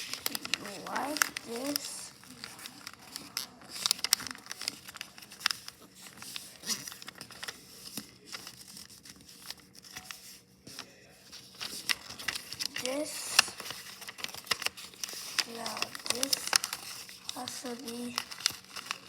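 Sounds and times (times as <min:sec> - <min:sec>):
paper crinkling and folding: 0:00.0 - 0:19.0.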